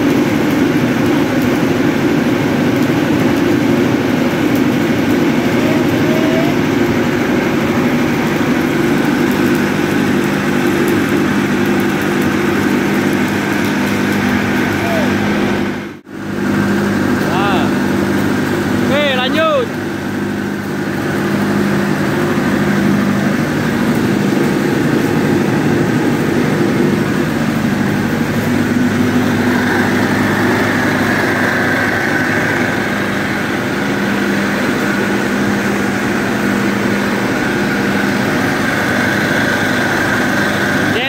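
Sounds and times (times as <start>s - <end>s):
diesel generator humming: 0.0s - 41.0s
high steady whine: 0.0s - 41.0s.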